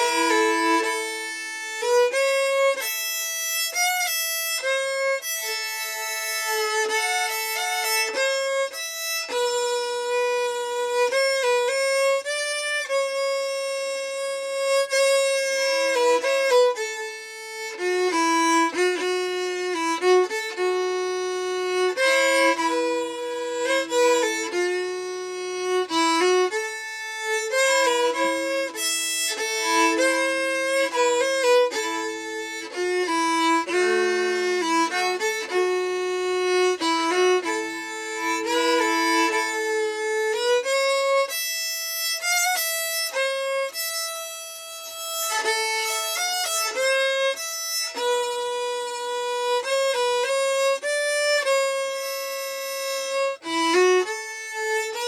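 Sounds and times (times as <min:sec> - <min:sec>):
solo fiddle playing slow tune: 0:00.0 - 0:55.0.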